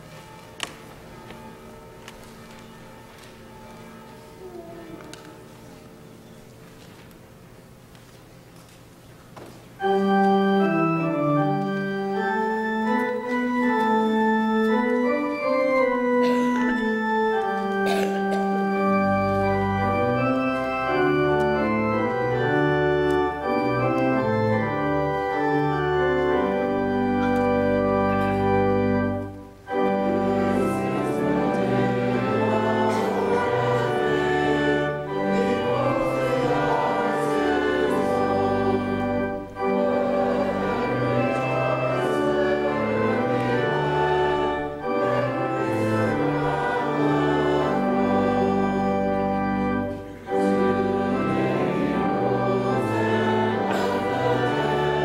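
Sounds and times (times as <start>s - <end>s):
church organ playing chords: 0.0s - 7.8s, 9.4s - 55.0s
deep organ pedal bass notes: 9.8s - 55.0s.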